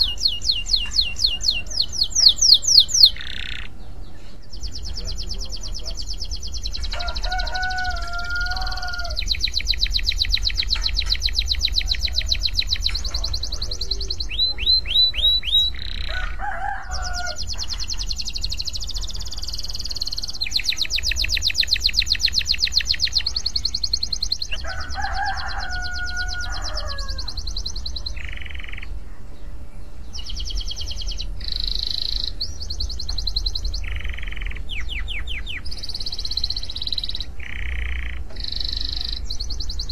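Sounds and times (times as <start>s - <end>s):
canary trilling: 0.0s - 29.1s, 29.8s - 39.9s
lower bird call: 0.0s - 39.9s
steady low rumble: 0.0s - 39.9s.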